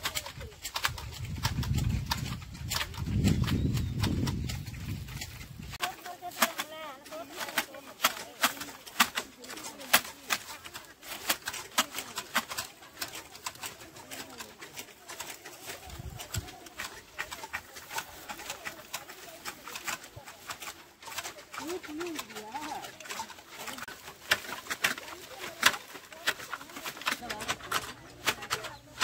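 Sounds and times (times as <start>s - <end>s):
shears snipping metallic clicks: 0.0s - 29.0s.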